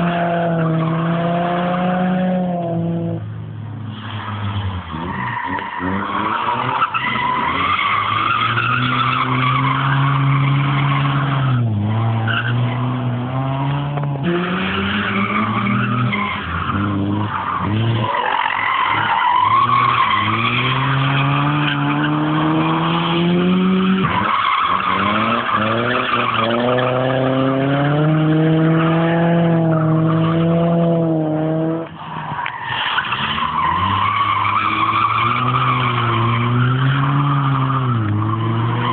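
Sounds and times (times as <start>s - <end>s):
car engine revving: 0.0s - 38.9s
tyre squeal: 3.9s - 13.1s, 14.2s - 30.9s, 32.1s - 38.9s.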